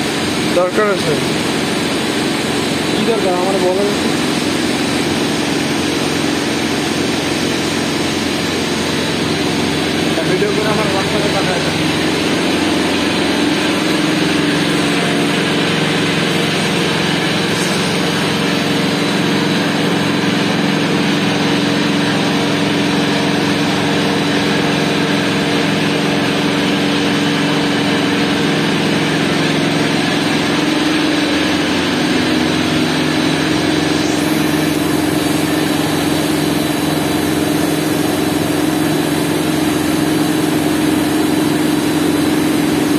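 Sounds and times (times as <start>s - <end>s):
pump motors humming: 0.0s - 42.9s.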